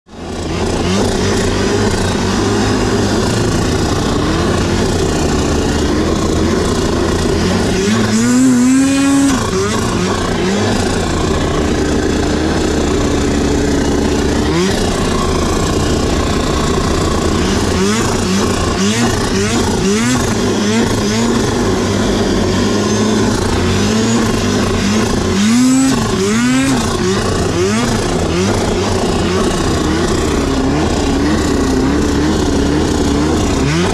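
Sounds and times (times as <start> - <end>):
snowmobile engine revving: 0.1 - 33.9.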